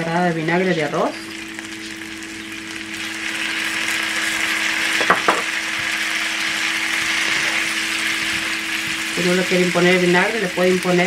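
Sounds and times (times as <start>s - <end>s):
potatoes sizzling in frying pan: 0.1s - 11.0s.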